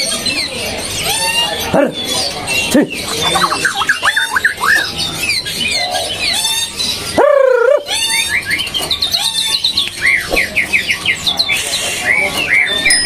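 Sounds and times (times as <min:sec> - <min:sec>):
birds singing whistles and trills: 0:00.0 - 0:13.0.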